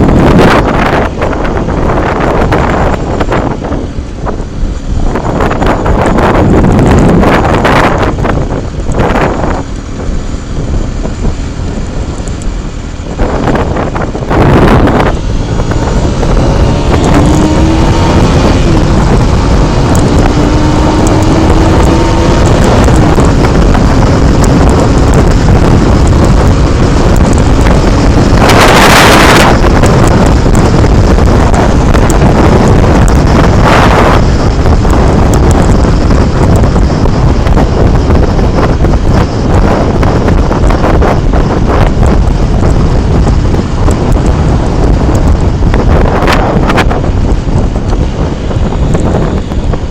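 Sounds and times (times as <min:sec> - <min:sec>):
loud rush of noise: 0:00.0 - 0:49.9
motorcycle engine accelerating: 0:00.0 - 0:49.9
wind buffeting microphone: 0:00.0 - 0:49.9.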